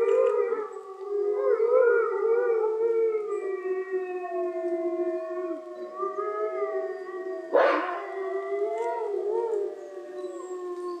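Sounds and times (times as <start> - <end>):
wolves howling in chorus: 0.0 - 11.0.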